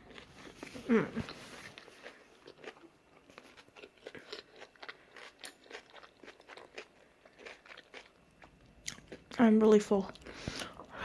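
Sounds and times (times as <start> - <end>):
person chewing food: 0.0 - 9.4.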